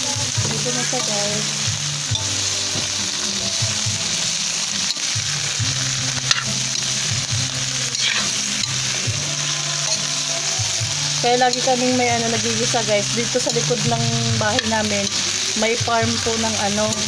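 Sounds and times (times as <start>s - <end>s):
food sizzling in a wok: 0.0s - 17.0s
metal spatula scraping a pan: 2.1s - 17.0s.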